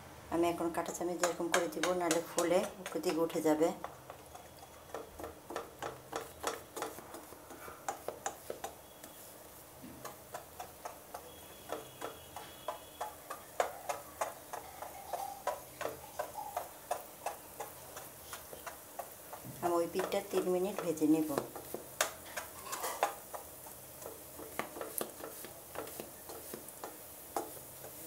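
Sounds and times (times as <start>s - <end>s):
fork tapping pan through dough: 0.8s - 28.0s.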